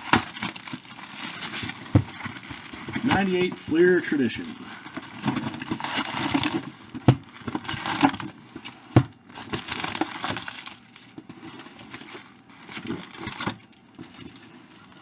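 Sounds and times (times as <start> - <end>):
plastic wrapping crinkling and tearing: 0.0 - 15.0.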